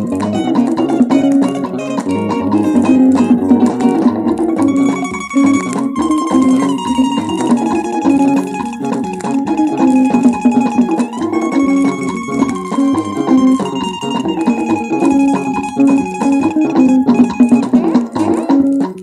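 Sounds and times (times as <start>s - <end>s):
highlife band music: 0.0s - 19.0s
long held notes: 0.0s - 19.0s
plucked guitar lines: 0.0s - 19.0s.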